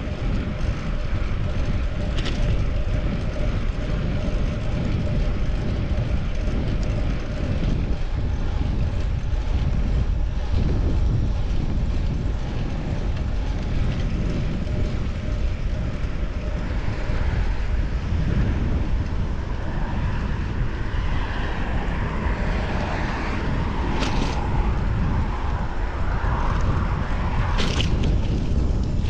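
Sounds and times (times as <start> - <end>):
road noise: 0.0 - 29.0
wind rumble on microphone: 0.0 - 29.0.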